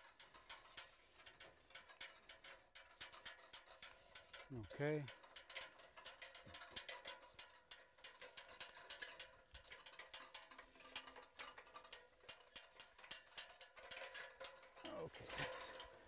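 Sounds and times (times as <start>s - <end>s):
faint rapid clicking and crackling: 0.0s - 16.0s.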